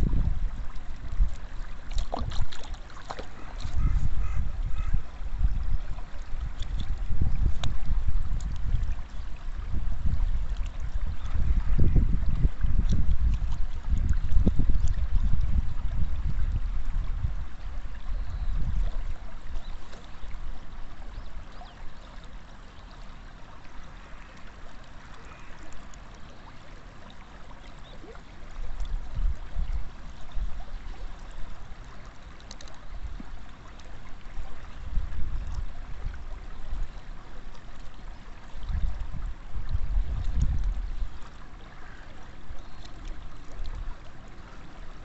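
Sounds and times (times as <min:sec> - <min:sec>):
wind rumbling on microphone: 0:00.0 - 0:22.0, 0:28.0 - 0:32.0, 0:34.1 - 0:45.0
water trickling over rocks: 0:00.0 - 0:45.0.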